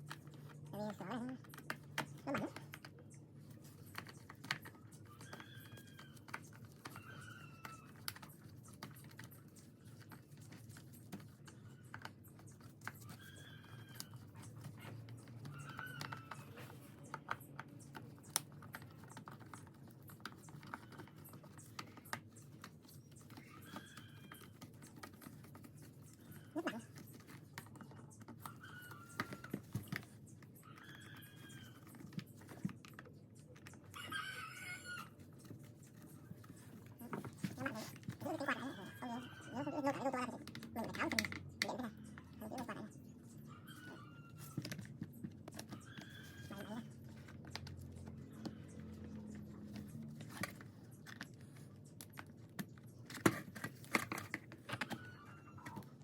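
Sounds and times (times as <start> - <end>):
hand tools clicking and tapping: 0.0 - 34.0, 44.4 - 56.0.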